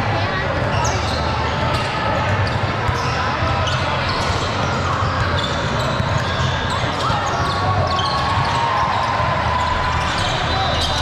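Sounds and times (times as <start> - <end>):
murmur of crowd voices: 0.0 - 11.0
sneakers squeaking: 0.2 - 11.0.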